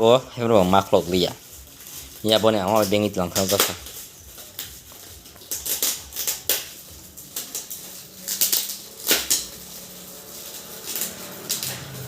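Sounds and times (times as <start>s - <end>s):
gift packaging rustling: 0.0s - 12.0s.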